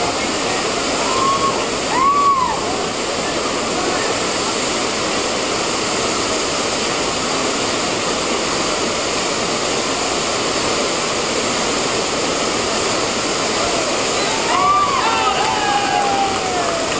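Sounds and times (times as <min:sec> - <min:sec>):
rushing river water: 0:00.0 - 0:16.9.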